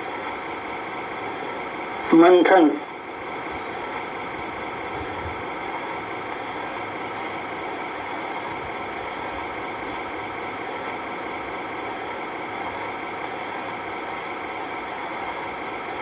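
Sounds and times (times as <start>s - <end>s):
machine droning hum: 0.0s - 16.0s.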